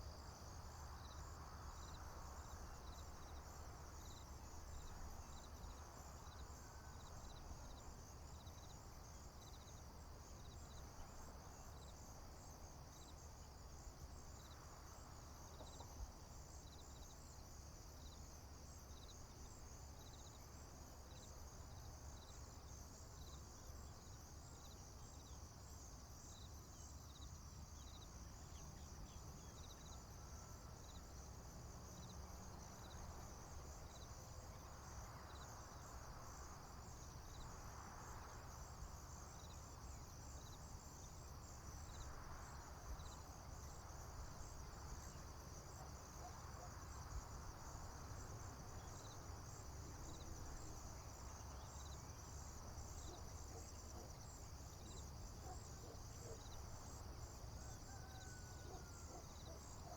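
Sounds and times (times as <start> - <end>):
cricket chirps: 0.0 - 59.9
crickets trilling: 0.0 - 59.9.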